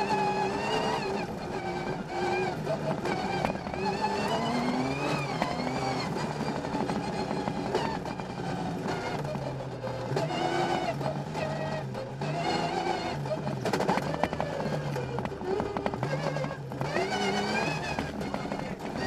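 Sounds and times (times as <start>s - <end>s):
gravel striking car: 0.0s - 19.0s
rally car engine revving: 0.0s - 19.0s.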